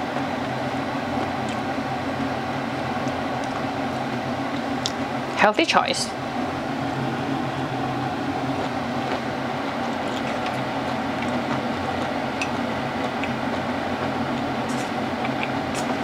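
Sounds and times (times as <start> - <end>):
extractor fan humming: 0.0 - 16.0.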